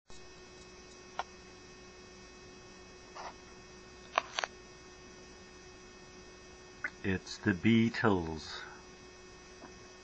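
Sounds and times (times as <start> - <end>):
electrical hum: 0.1 - 10.0.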